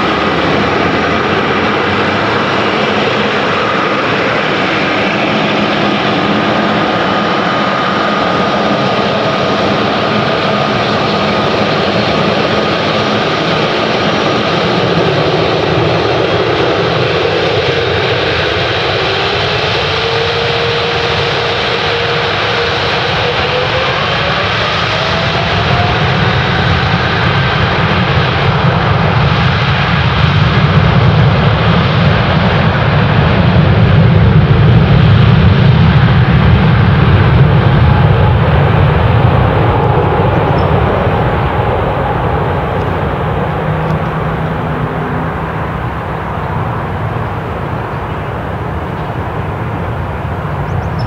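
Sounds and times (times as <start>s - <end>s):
whine rising in pitch: 0.0s - 27.6s, 36.4s - 51.0s
jet engines roaring: 0.0s - 51.0s
steady engine whine: 0.0s - 51.0s.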